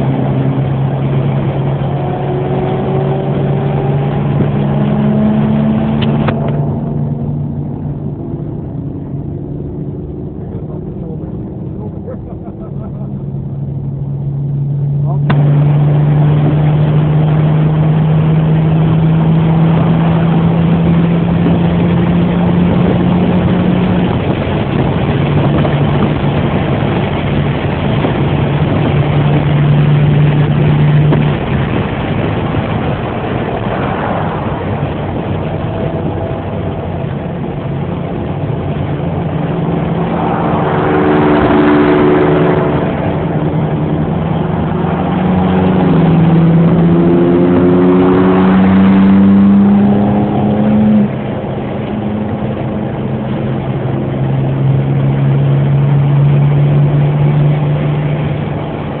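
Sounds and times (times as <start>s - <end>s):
car engine droning: 0.0s - 59.0s
rushing noise: 0.0s - 59.0s.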